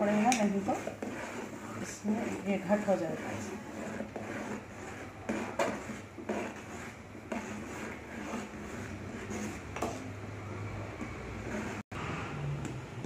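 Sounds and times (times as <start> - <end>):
metal spoon scraping a pot: 0.0 - 11.8.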